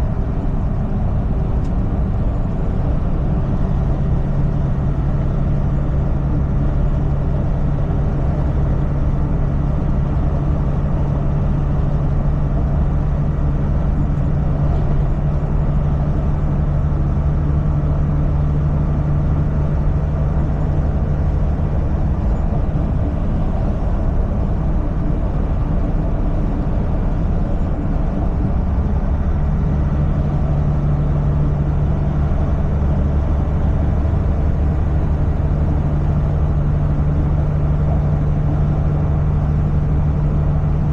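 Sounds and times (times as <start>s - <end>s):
road noise: 0.0s - 40.9s
truck diesel engine drone: 0.0s - 40.9s.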